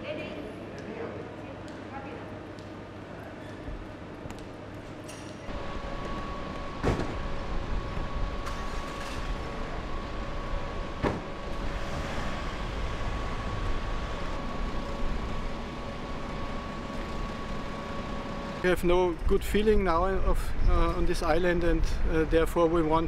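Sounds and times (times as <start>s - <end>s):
steady hum with high whine: 0.0s - 23.0s.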